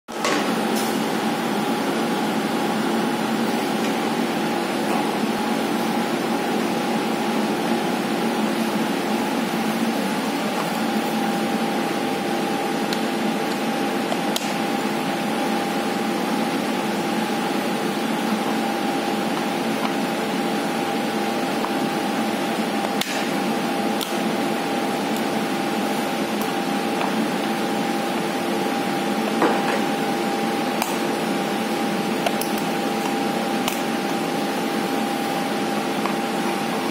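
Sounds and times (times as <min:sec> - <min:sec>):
mechanical hum with whine: 0:00.1 - 0:36.9.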